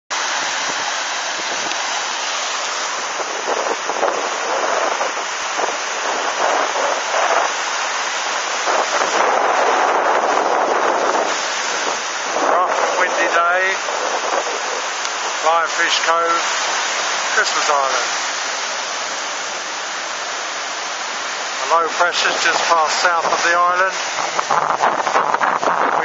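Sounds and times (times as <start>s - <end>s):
heavy sea swell: 0.1s - 26.0s
strong wind: 0.1s - 26.0s.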